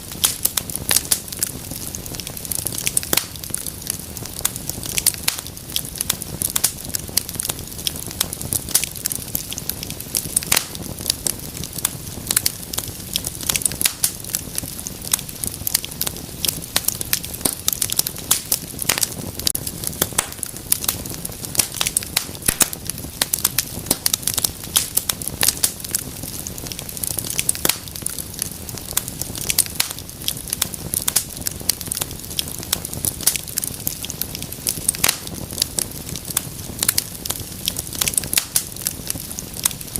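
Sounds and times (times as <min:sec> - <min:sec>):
low rush of flame: 0:00.0 - 0:39.9
wood fire crackling: 0:00.0 - 0:39.9.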